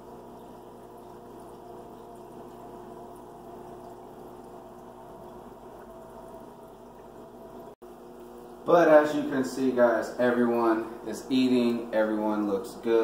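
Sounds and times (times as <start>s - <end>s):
filter motor hum: 0.0s - 13.0s
water trickling: 0.0s - 13.0s.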